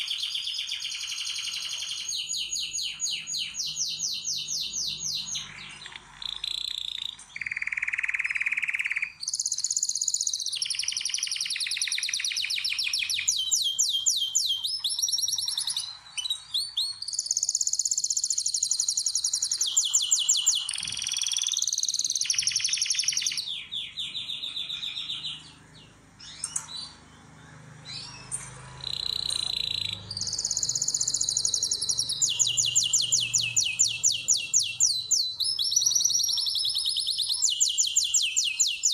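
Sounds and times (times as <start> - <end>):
canary singing rapid trills: 0.0 - 38.9.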